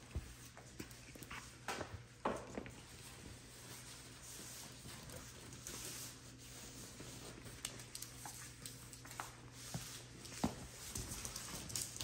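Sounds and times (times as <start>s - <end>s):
paws pattering on tile floor: 0.0s - 12.0s.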